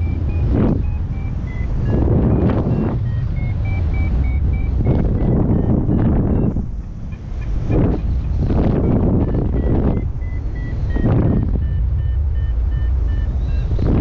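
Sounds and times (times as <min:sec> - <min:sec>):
variometer beeping: 0:00.0 - 0:14.0
wind buffeting microphone: 0:00.0 - 0:14.0.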